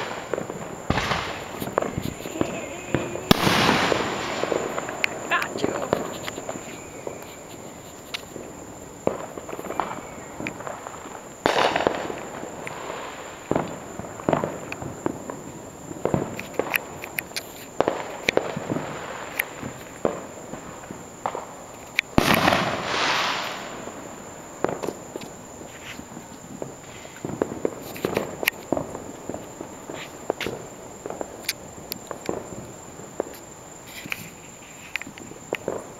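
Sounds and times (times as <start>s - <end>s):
heavy firework booms: 0.0s - 7.2s, 8.3s - 16.7s, 17.8s - 31.4s
fireworks popping and banging: 0.0s - 35.9s.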